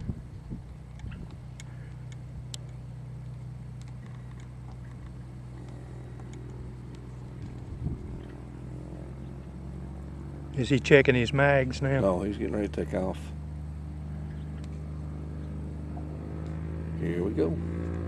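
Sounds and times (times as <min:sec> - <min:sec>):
airplane engine running: 0:00.0 - 0:18.0.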